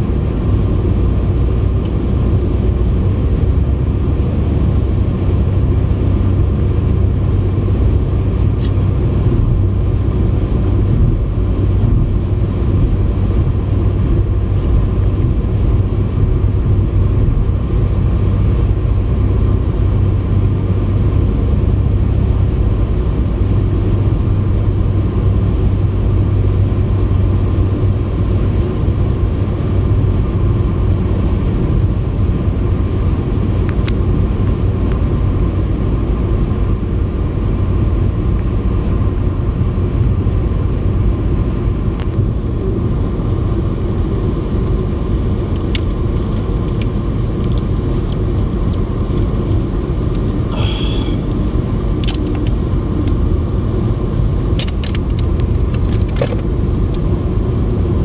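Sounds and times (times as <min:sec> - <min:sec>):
car interior road noise: 0:00.0 - 0:58.0.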